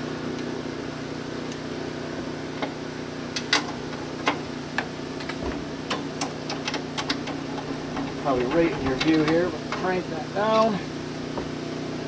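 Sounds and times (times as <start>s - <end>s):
steady low hum: 0.8s - 12.0s.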